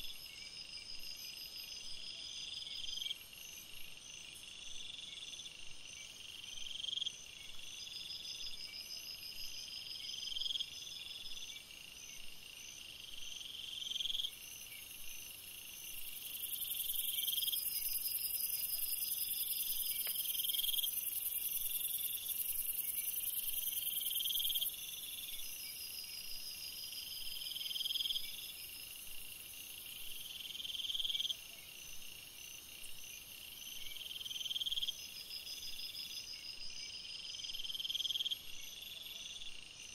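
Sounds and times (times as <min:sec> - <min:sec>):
quiet insect trills: 0:00.0 - 0:39.9.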